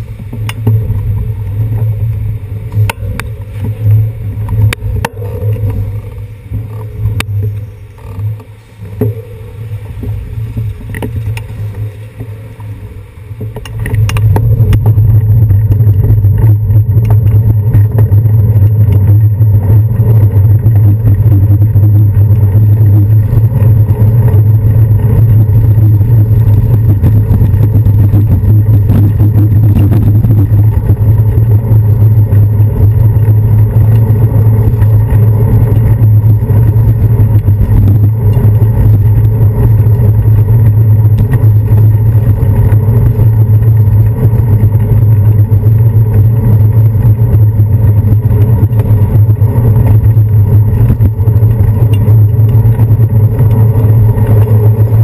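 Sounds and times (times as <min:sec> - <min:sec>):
passing traffic: 0:00.0 - 0:55.0
wind and road vibration rumble: 0:00.0 - 0:55.0.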